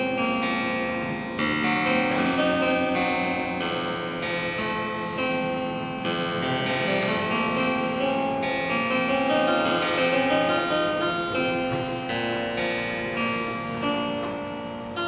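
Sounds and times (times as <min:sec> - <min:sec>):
harpsichord plucked notes: 0:00.0 - 0:15.0.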